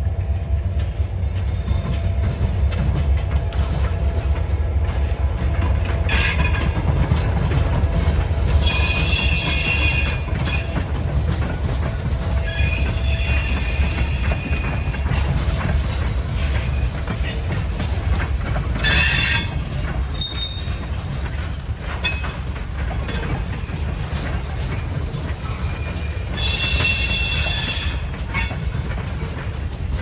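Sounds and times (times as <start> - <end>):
freight train rumbling past: 0.0 - 30.0
train wheels squealing on rail: 1.5 - 30.0.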